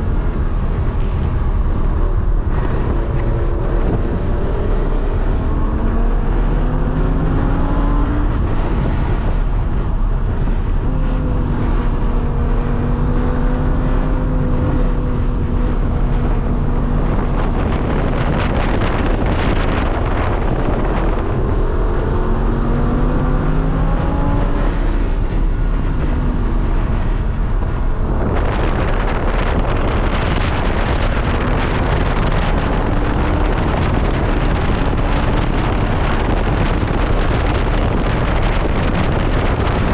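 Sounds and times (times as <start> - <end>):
loud rushing noise: 0.0 - 39.9
sports car engine revving: 0.0 - 39.9.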